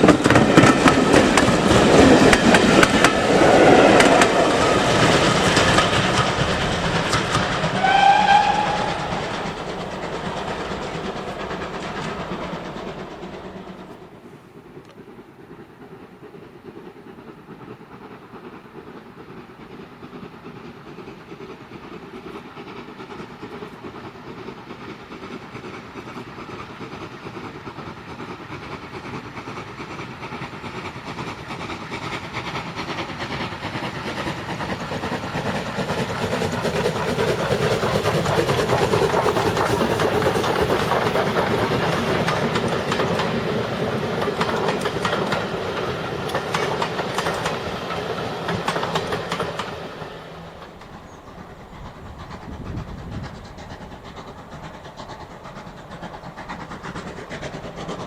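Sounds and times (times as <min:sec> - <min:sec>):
wheels clacking over rail joints: 0:00.0 - 0:21.0, 0:28.2 - 0:58.0
steam train passing: 0:00.0 - 0:58.0.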